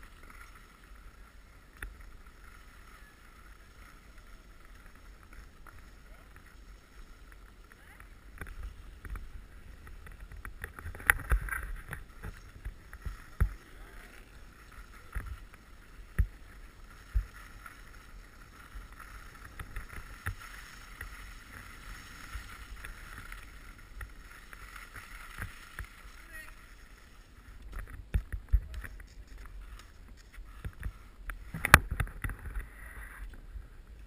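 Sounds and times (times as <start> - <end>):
skis scraping over snow: 0.0 - 34.0.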